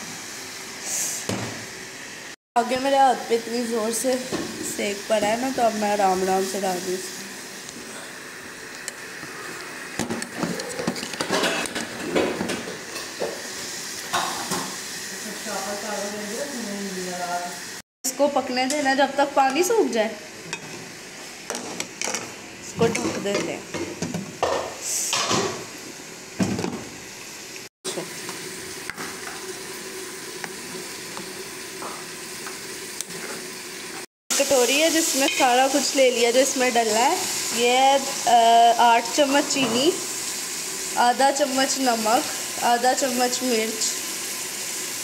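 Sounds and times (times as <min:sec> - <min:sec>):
water boiling in a pan: 0:00.0 - 0:17.8, 0:24.0 - 0:45.0.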